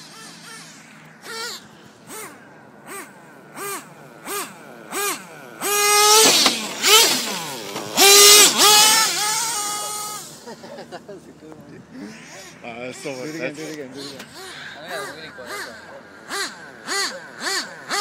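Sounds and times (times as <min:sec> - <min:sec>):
model engine revving: 0:00.0 - 0:10.6, 0:12.4 - 0:18.0.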